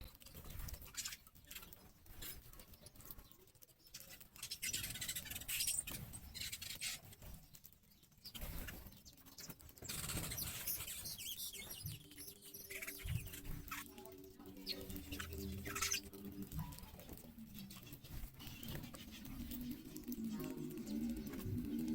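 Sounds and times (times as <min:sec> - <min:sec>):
scratching and rustling: 0:00.0 - 0:21.9
small birds chirping: 0:00.0 - 0:21.9.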